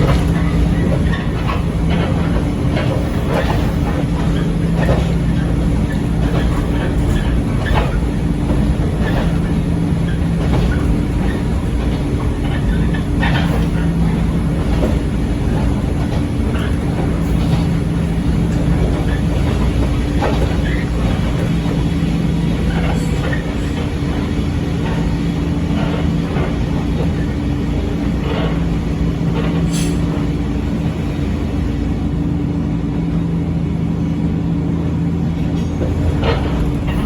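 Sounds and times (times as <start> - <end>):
wheels clicking over rail joints: 0.0 - 29.9
electric railcar hum and rumble: 0.0 - 37.0.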